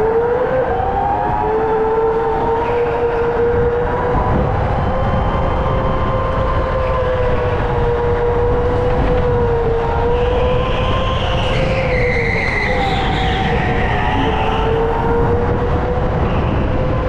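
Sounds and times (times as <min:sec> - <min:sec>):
go-kart engine whine: 0:00.0 - 0:17.0.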